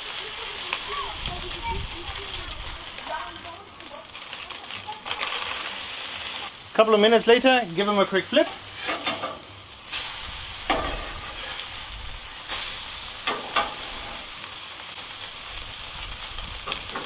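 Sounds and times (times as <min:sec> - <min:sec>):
patties sizzling on griddle: 0:00.0 - 0:17.0.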